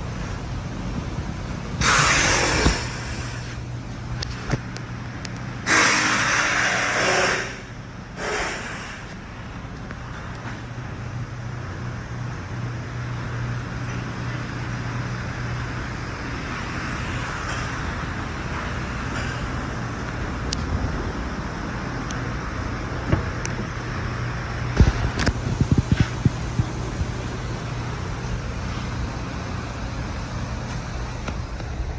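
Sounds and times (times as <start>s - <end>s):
low hum with hiss: 0.0s - 31.9s.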